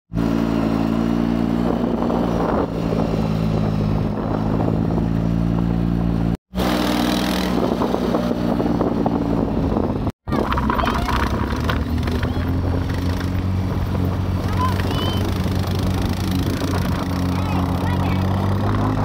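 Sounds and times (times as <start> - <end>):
quad bike engine running: 0.1 - 19.0.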